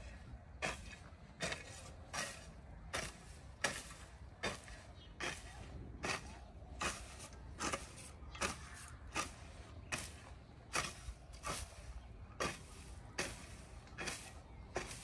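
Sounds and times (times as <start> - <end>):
hoe chopping through soil: 0.0 - 15.0.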